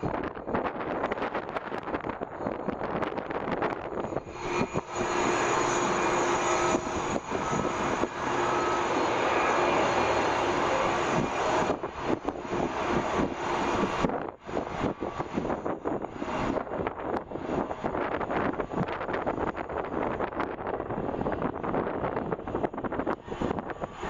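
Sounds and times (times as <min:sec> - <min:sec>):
jet engines whining: 0:00.0 - 0:24.0
wind buffeting microphone: 0:00.0 - 0:24.0.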